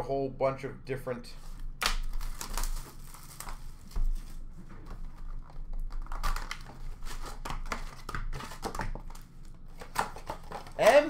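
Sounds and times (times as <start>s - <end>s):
wrappers crinkling and tearing: 1.9s - 11.0s.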